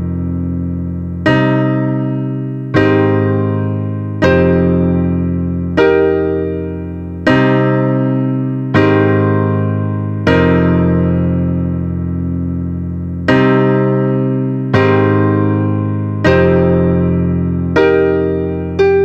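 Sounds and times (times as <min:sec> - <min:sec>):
slow keyboard chords: 0:00.0 - 0:19.0.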